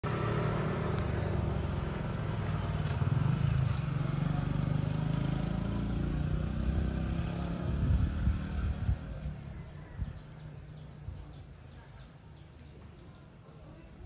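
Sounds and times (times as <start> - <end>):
vehicle engine rumbling: 0.0 - 13.4.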